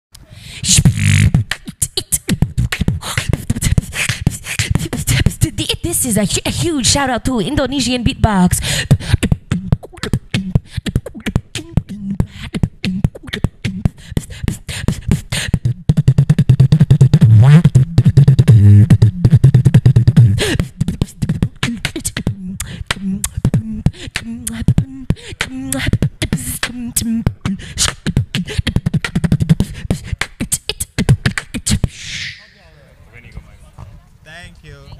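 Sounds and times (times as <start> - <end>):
woman beatboxing into microphone: 0.4 - 32.3.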